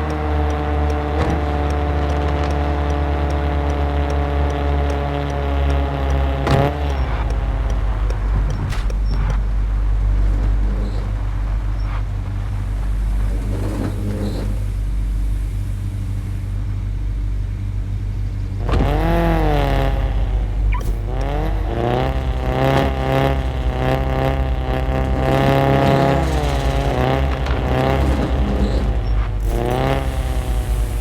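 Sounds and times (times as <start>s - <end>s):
car exhaust idling and revving: 0.0s - 31.0s.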